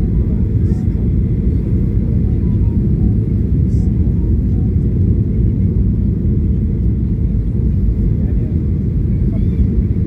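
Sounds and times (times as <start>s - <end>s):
airliner rumble: 0.0s - 10.0s.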